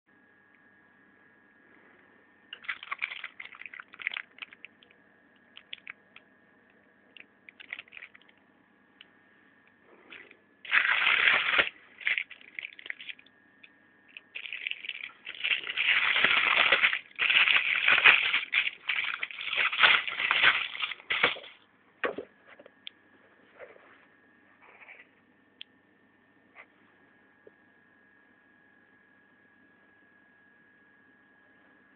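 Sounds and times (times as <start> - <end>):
faint steady high hum: 0.1 - 31.9.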